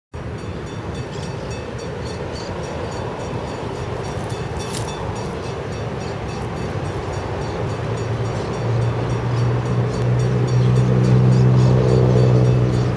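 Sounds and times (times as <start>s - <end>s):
diesel locomotive engine rumble: 0.2s - 12.9s.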